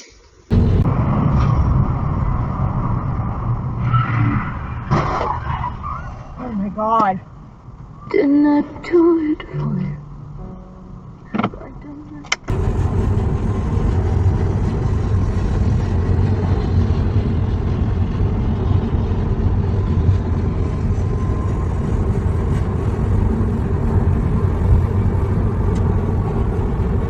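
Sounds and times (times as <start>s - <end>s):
car engine and road noise: 0.4s - 27.0s.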